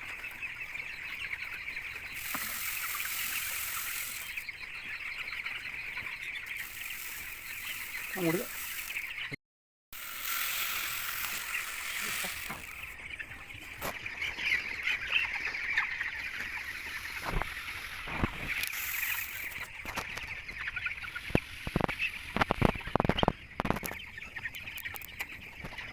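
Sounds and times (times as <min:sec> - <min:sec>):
chickens chirping: 0:00.0 - 0:09.4, 0:10.0 - 0:25.9.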